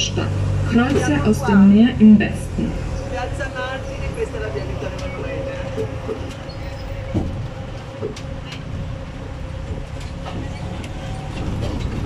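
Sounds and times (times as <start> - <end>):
vehicle engine rumble with whine: 0.0 - 12.0.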